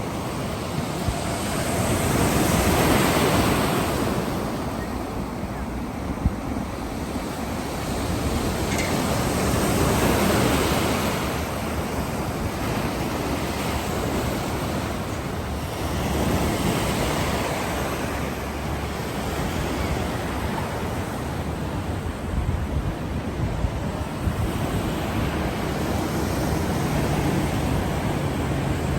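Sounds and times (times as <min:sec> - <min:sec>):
surf washing onto shore: 0:00.0 - 0:28.9
wind buffeting microphone: 0:00.0 - 0:28.9.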